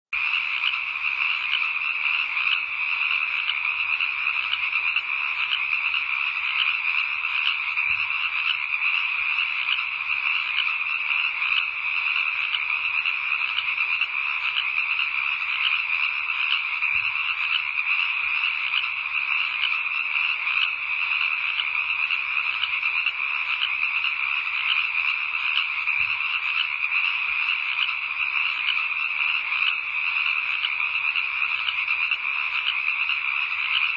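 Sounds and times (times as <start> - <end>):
frogs chorus calling: 0.2 - 33.9.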